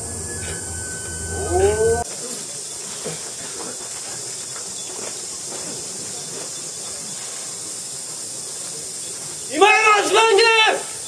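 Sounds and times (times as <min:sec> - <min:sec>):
faint indistinct voices: 0:00.0 - 0:11.0
steady high hiss: 0:00.0 - 0:11.0.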